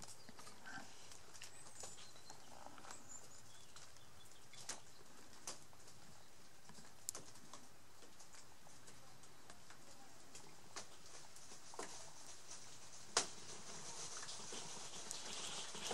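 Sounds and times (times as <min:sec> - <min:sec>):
faint steady hiss: 0:00.0 - 0:15.9.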